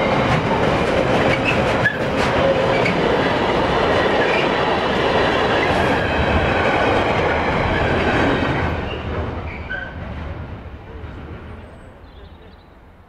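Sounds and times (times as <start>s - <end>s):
train wheels rolling on rail: 0.0s - 13.0s.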